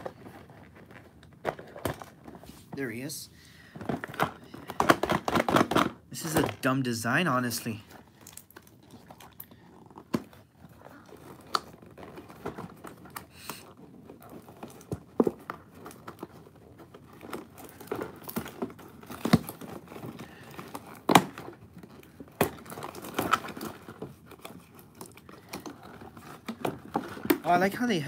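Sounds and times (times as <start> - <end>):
cardboard and plastic crinkling: 0.0 - 28.0.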